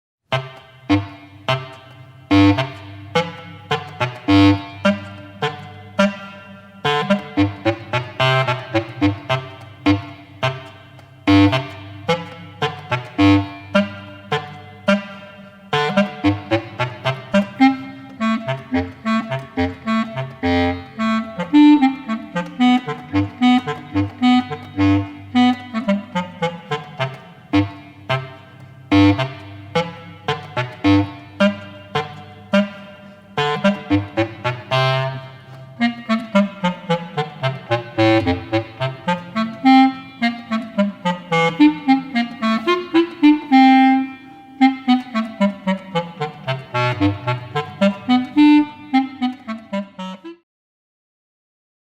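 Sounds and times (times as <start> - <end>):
bouncy woodwind melody: 0.3 - 50.4
lively instrumental music: 0.3 - 50.4.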